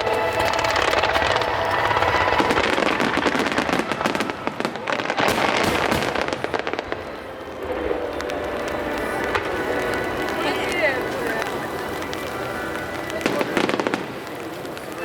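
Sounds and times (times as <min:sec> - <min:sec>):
fireworks bursting with crackling: 0:00.0 - 0:15.0.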